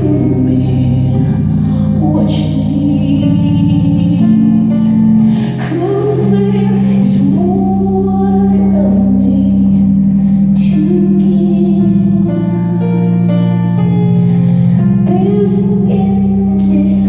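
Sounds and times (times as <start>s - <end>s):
woman singing: 0.0s - 13.2s, 15.0s - 17.0s
keyboard chords: 0.0s - 17.0s.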